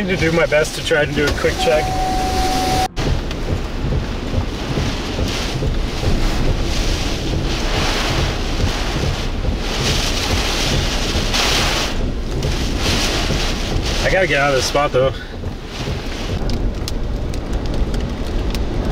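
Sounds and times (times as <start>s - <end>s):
constant low rumble: 0.0s - 18.9s
strong wind buffeting microphone: 0.0s - 18.9s.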